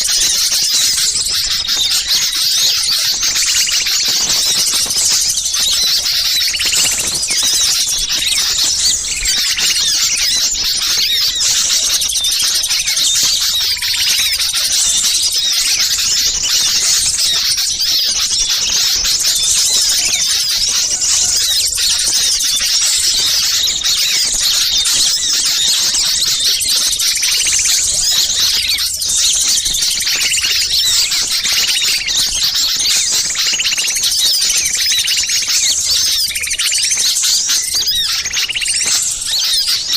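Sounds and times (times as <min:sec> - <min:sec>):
small songbirds chattering: 0:00.0 - 0:39.9.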